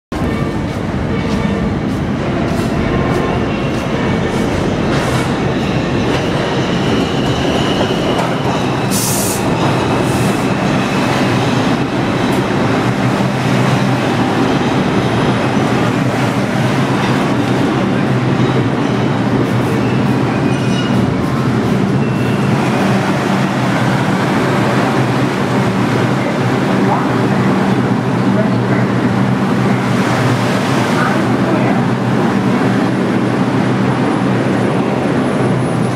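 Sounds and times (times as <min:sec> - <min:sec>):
subway train rumbling: 0:00.1 - 0:35.9.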